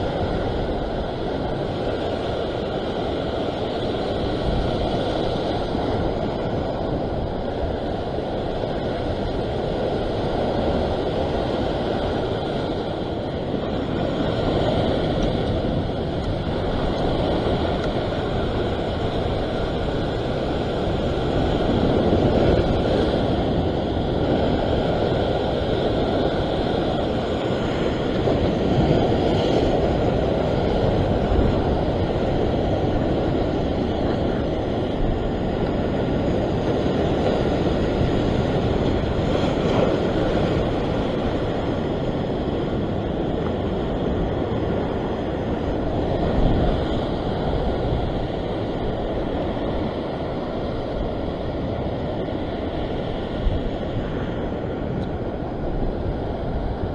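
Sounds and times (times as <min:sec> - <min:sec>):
ocean surf washing over rocks: 0:00.0 - 0:56.9
wind buffeting microphone: 0:00.0 - 0:56.9.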